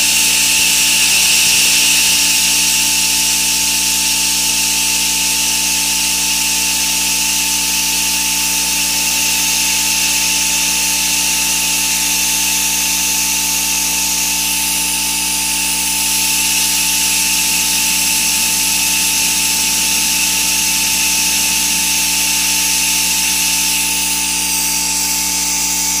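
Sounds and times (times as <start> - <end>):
coolant spray hiss: 0.0 - 26.0
milling machine high whine: 0.0 - 26.0.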